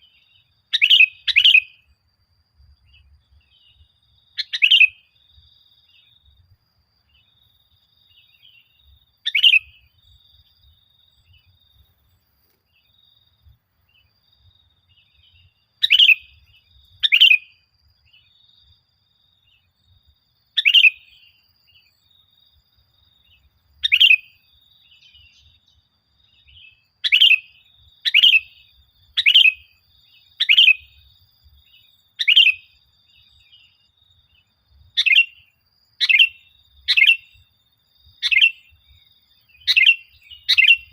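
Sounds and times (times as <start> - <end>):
bird chirping calls: 0.0 - 2.0, 2.6 - 18.7, 19.4 - 22.4, 23.0 - 40.9.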